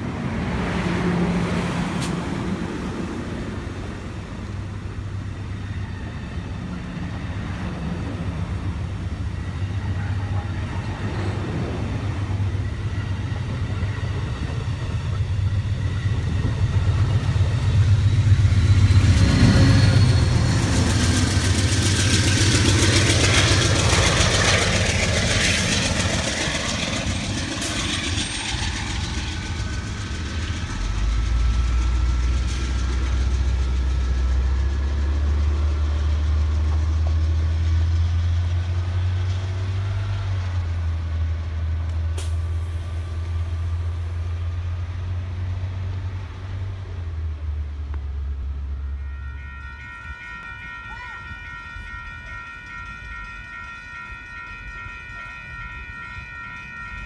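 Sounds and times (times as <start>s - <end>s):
diesel locomotive engine drone: 0.0s - 57.0s
train cars rolling: 0.0s - 57.0s.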